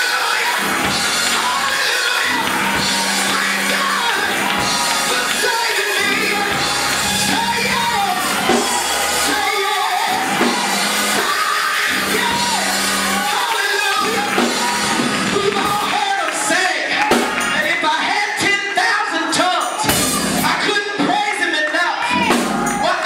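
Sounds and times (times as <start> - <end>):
drums: 0.0 - 17.8, 19.6 - 21.4, 22.2 - 23.0
organ chords: 0.0 - 18.7, 19.8 - 21.5, 22.1 - 23.0.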